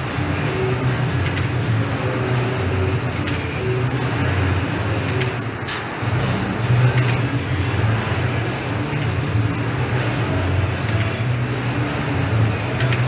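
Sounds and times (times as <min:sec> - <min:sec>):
rowing machine flywheel whirring: 0:00.0 - 0:13.0.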